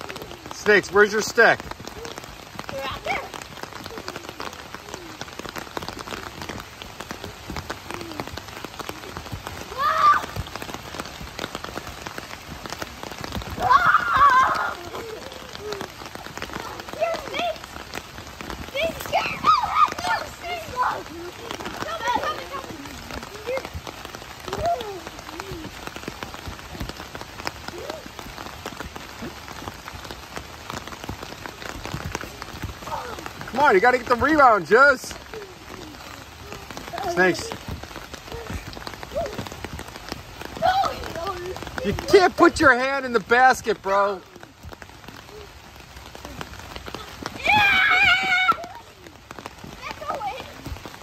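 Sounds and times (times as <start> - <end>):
raindrops ticking on surfaces: 0.0 - 51.0
steady rain falling: 0.0 - 51.0.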